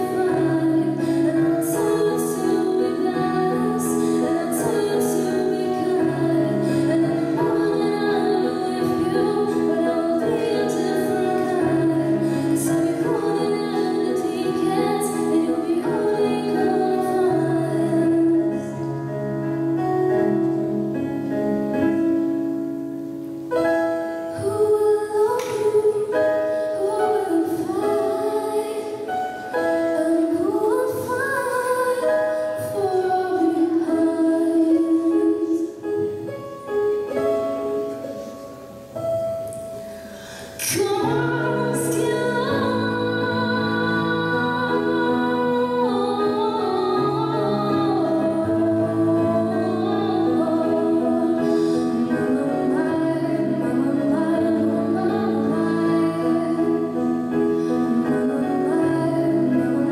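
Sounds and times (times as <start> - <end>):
woman singing into a microphone: 0.0 - 19.4, 24.3 - 36.3, 39.8 - 59.9.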